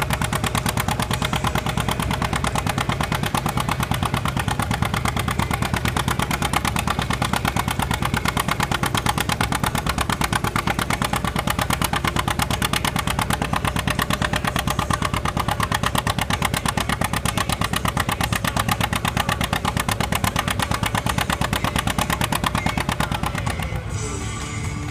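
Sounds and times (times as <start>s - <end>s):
tractor engine exhaust popping: 0.0s - 24.9s.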